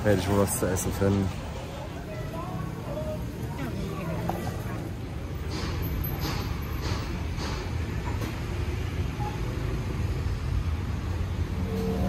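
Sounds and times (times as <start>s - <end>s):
street traffic rumble: 0.0s - 12.0s
vehicle engine: 0.0s - 12.0s.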